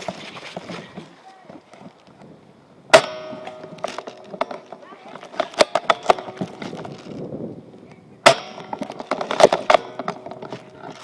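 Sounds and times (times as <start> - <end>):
rustling: 0.0 - 2.3, 3.2 - 7.9, 8.5 - 11.0.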